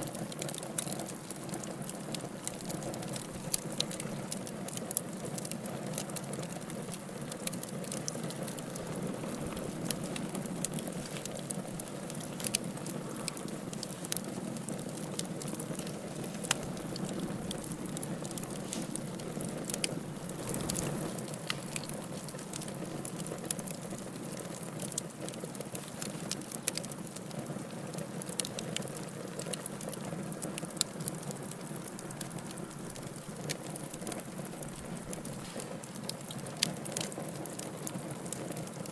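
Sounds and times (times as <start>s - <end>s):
flames rushing: 0.0s - 38.8s
fire crackles and pops: 0.0s - 38.9s.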